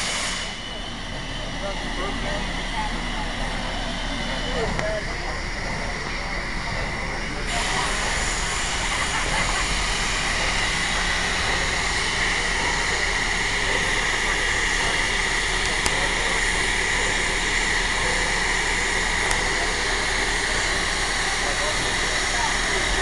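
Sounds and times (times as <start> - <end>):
steam locomotive hissing steam: 0.0 - 23.0.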